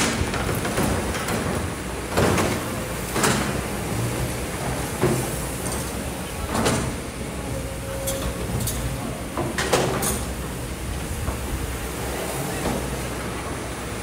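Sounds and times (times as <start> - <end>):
excavator clanks and knocks: 0.0 - 11.7
hydraulic excavator running: 0.0 - 14.0.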